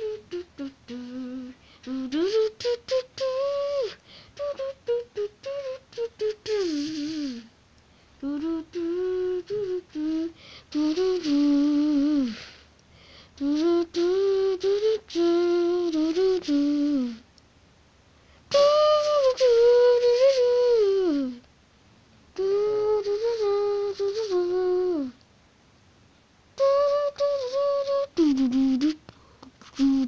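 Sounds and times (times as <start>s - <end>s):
person humming a slow tune: 0.0s - 7.5s, 8.2s - 12.6s, 13.4s - 17.3s, 18.5s - 21.4s, 22.4s - 25.2s, 26.6s - 30.0s.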